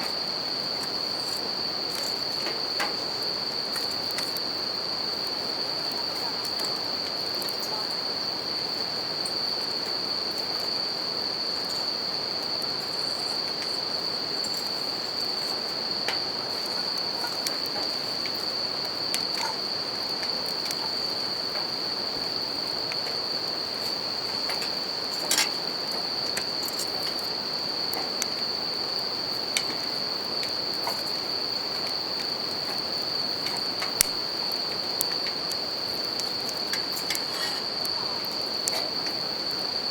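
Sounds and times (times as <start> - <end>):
crickets trilling: 0.0 - 39.9
campfire crackling and popping: 0.1 - 7.6, 11.6 - 39.5.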